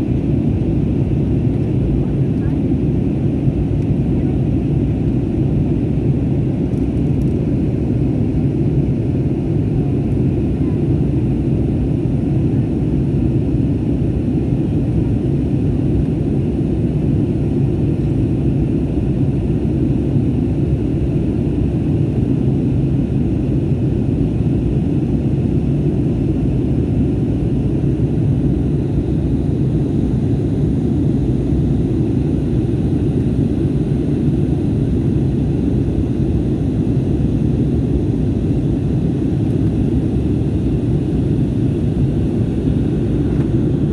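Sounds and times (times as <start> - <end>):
airplane engines rumbling: 0.0 - 43.9.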